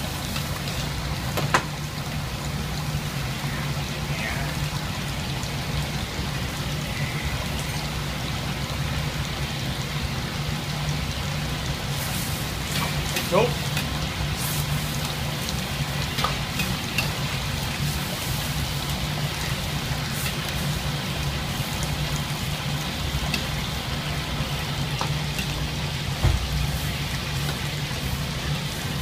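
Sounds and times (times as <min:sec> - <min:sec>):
water boiling hard: 0:00.0 - 0:29.0.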